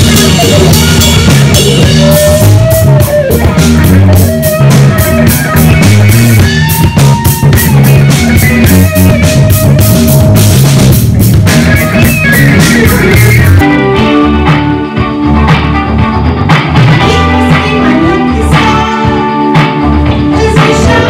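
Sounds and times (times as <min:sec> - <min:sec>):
drum kit playing: 0:00.0 - 0:21.0
electric guitar lead notes: 0:00.0 - 0:21.0.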